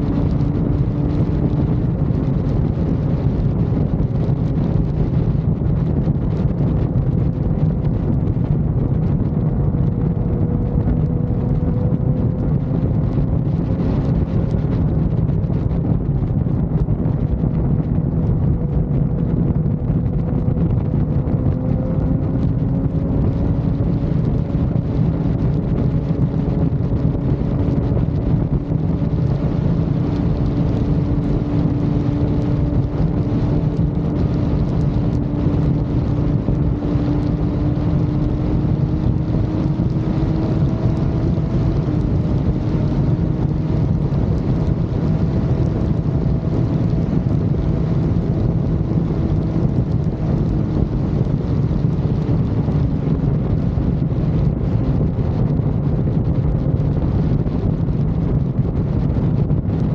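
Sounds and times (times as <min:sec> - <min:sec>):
motorcycle engine hum: 0:00.0 - 0:59.9
wind rushing over microphone: 0:00.0 - 0:59.9.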